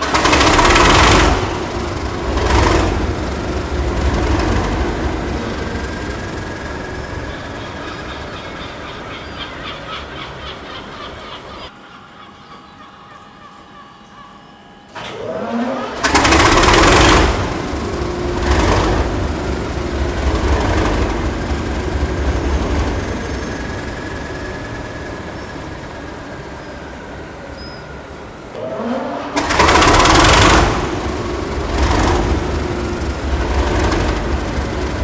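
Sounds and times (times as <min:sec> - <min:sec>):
diesel engine cranking and firing: 0:00.0 - 0:11.0, 0:14.9 - 0:35.0.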